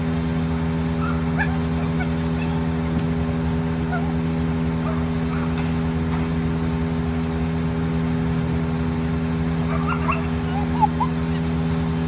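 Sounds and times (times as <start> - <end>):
machinery engine hum: 0.0 - 12.0.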